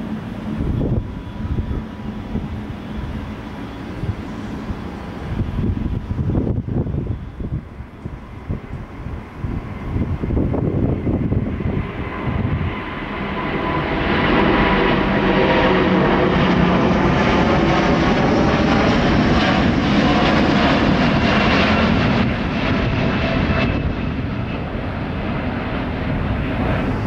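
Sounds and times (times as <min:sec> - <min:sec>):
faint engine whine: 0:00.0 - 0:27.0
jet engines at takeoff: 0:00.0 - 0:27.0.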